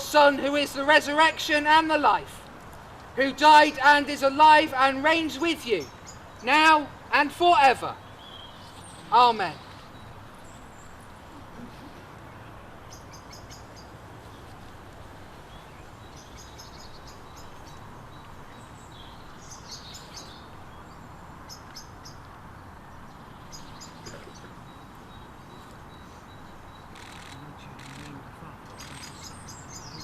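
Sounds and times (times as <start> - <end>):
outdoor background hiss: 0.0 - 30.0
small birds chirping: 2.8 - 30.0.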